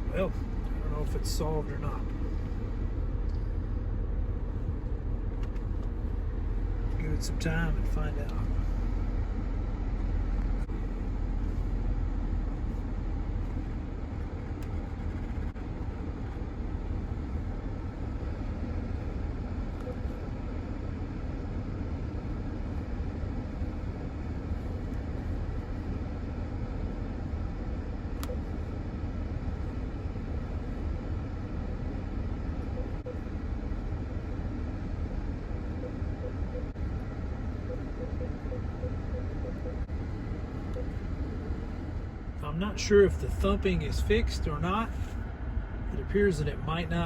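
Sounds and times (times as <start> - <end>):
minivan engine rumble: 0.0 - 47.0.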